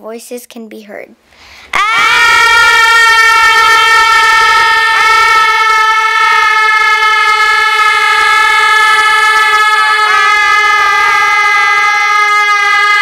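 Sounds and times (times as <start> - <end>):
girls screaming: 1.7 - 13.0.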